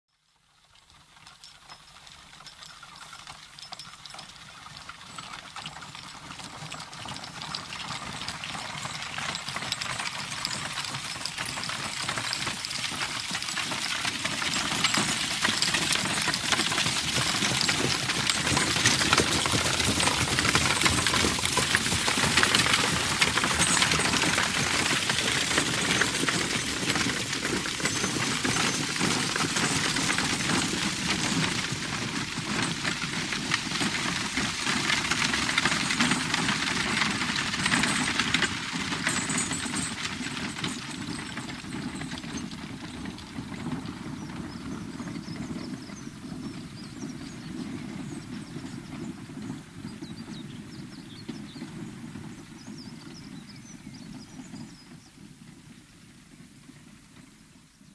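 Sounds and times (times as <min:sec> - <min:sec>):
hooves clip-clopping: 0:00.5 - 0:57.9
cart wheels rattling: 0:00.6 - 0:57.3.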